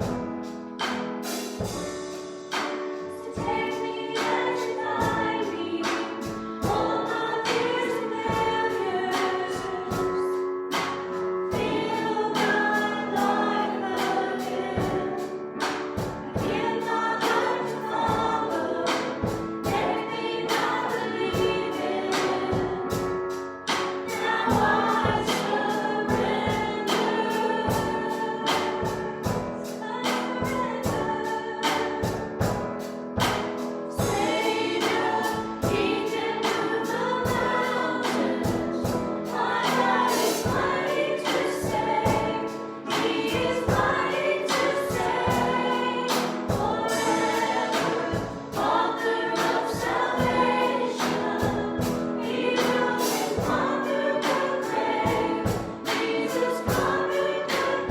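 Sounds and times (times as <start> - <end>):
steady drum beat: 0.0 - 57.9
voices singing together: 0.8 - 57.9.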